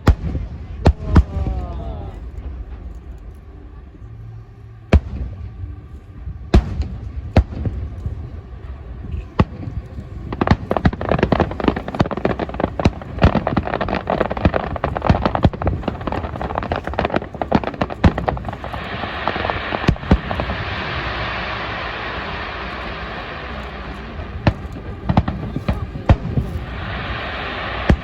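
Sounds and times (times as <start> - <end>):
fireworks banging and crackling: 0.0 - 28.0.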